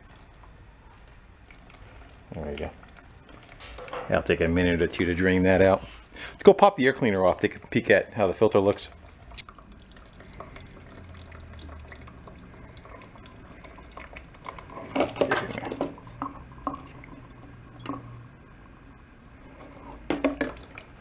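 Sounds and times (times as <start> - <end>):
fuel trickling into a plastic jug: 0.0 - 6.5, 7.4 - 17.5, 19.9 - 21.0.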